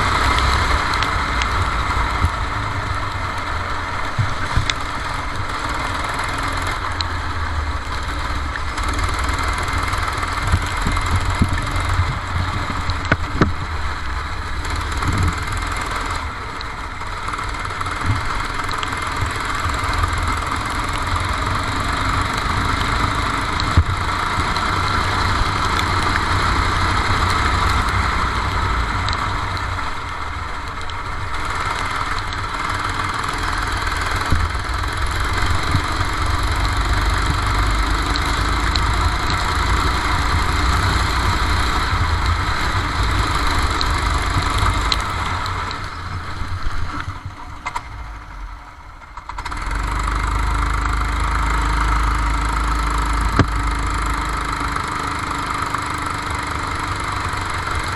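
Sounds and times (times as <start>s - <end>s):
racing kart engine: 0.0s - 57.9s.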